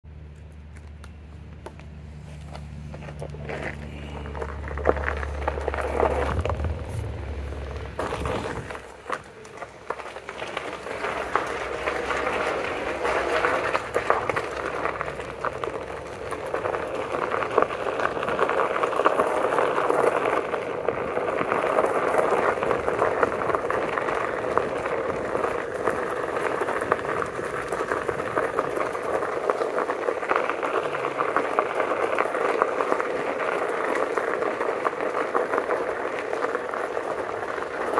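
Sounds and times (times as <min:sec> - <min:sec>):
low hum: 0:00.1 - 0:32.4
tyre crunching over gravel: 0:00.6 - 0:37.9.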